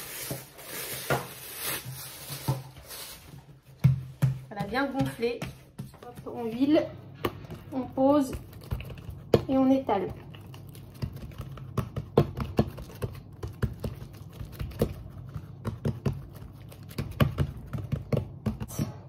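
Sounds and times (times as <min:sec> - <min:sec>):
hands patting dough on wood: 0:03.7 - 0:19.0.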